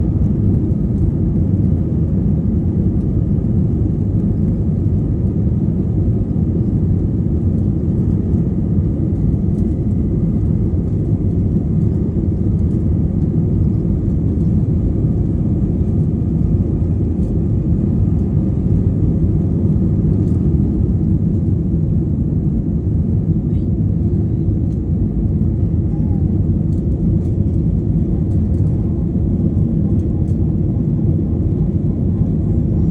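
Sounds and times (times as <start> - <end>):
airplane engines rumbling: 0.0 - 32.9.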